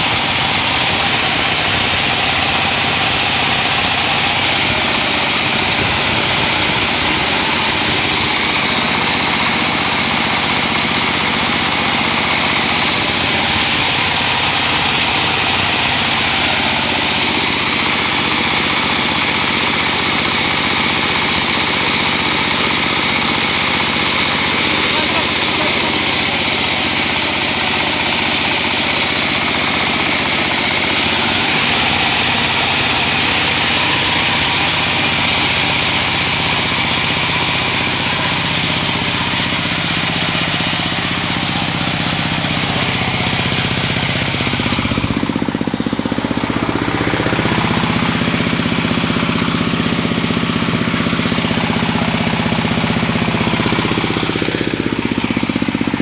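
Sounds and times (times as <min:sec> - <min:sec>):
machine rattling and droning: 0:00.0 - 0:56.0.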